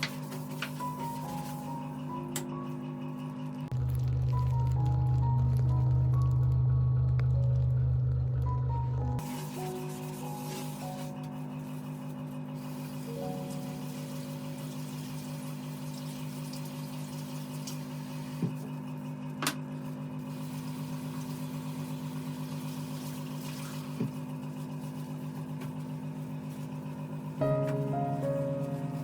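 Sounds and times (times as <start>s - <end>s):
electric hum with pulse: 0.0s - 29.0s.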